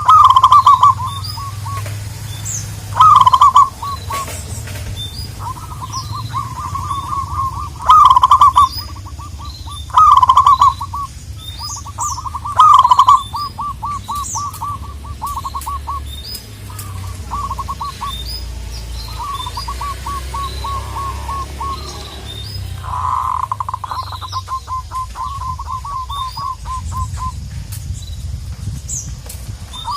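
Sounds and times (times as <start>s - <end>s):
doves cooing: 0.0s - 27.5s
small birds chirping: 0.0s - 29.9s.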